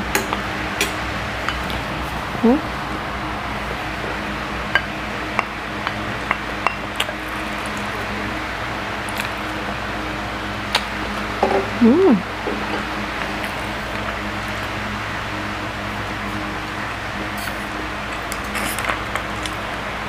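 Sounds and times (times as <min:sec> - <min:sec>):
steady fan hum: 0:00.0 - 0:20.0.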